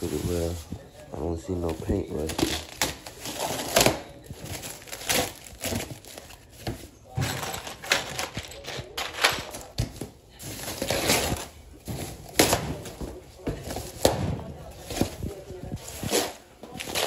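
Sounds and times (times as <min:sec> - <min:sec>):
plastic wrap rustling and crinkling: 0:00.0 - 0:17.0.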